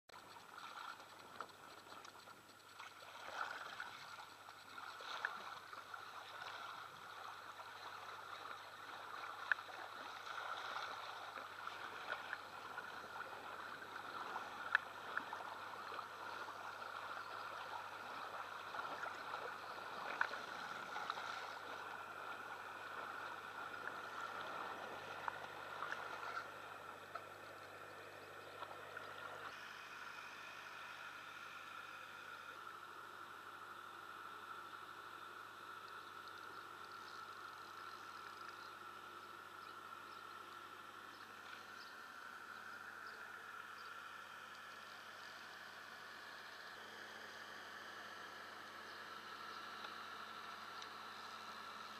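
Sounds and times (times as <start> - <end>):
water lapping against hulls: 0.1 - 51.9.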